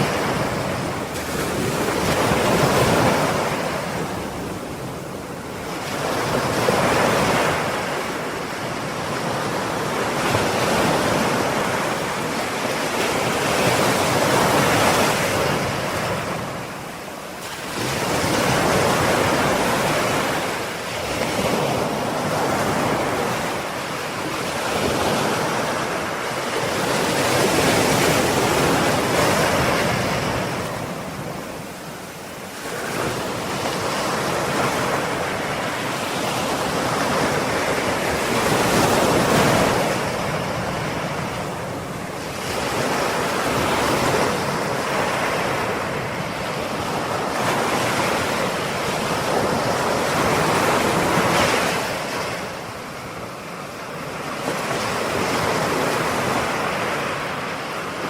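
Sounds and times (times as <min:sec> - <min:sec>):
ocean waves breaking on shore: 0:00.0 - 0:58.0
wind noise: 0:00.0 - 0:58.0.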